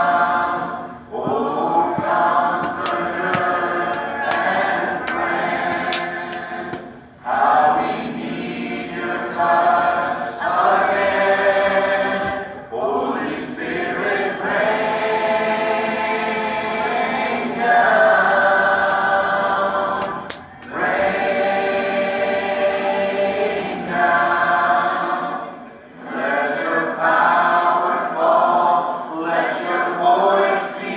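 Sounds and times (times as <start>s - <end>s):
voices singing in harmony: 0.0s - 30.9s.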